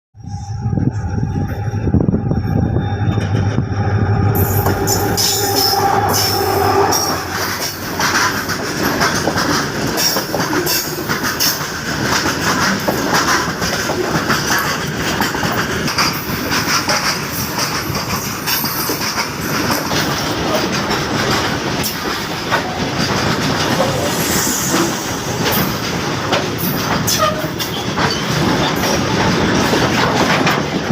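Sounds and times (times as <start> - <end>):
train rumbling on rails: 0.2 - 30.9
wheels clacking over rail joints: 4.6 - 24.2, 25.3 - 30.9.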